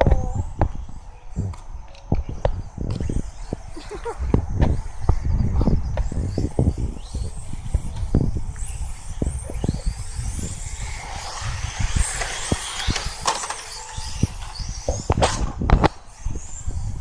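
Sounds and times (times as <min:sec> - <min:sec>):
rc car motor whine: 0:00.0 - 0:17.0.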